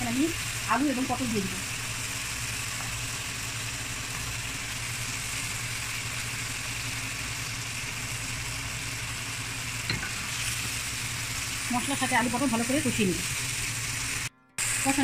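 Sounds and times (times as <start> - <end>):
masala sizzling in a frying pan: 0.0 - 15.0.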